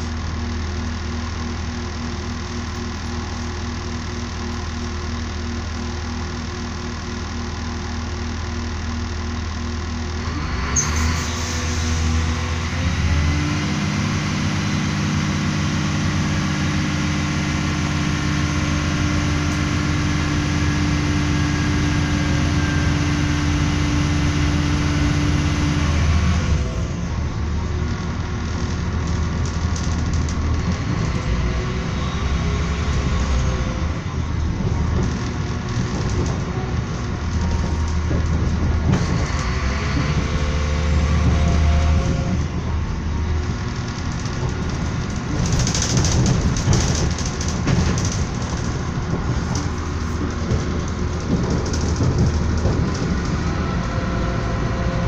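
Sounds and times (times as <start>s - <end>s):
train wheels rolling on rails: 10.2s - 55.0s.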